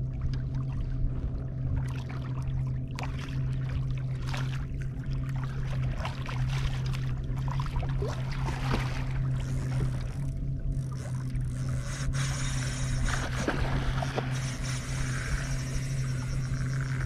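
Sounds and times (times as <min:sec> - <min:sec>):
small waves lapping against hull: 0:00.0 - 0:17.0
steady low hum: 0:00.0 - 0:17.0.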